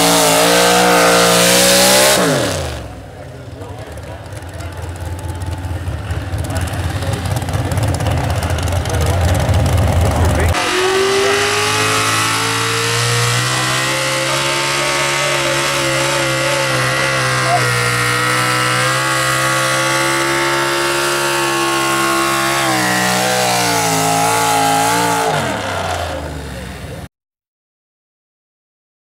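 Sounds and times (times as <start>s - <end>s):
truck engine at high revs: 0.0s - 27.1s.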